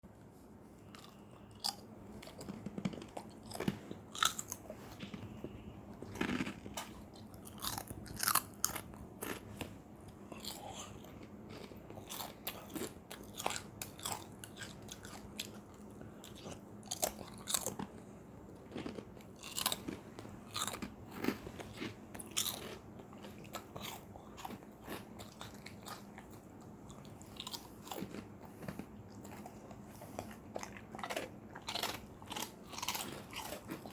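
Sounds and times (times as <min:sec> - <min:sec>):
dogs crunching snacks: 0:00.9 - 0:09.6, 0:10.2 - 0:33.9.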